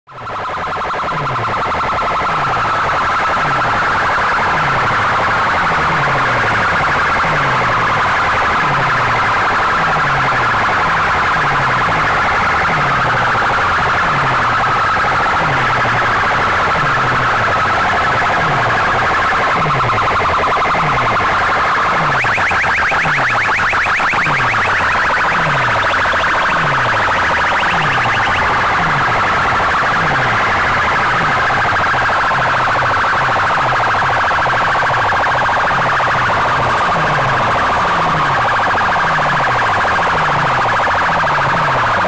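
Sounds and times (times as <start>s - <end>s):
loud siren-like electronic sound: 0.1s - 42.0s.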